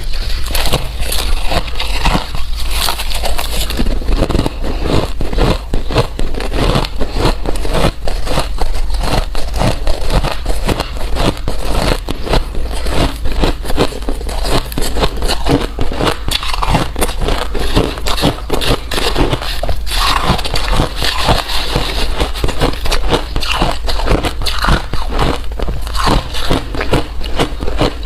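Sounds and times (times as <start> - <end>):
ice crunching while chewed: 0.0 - 28.0.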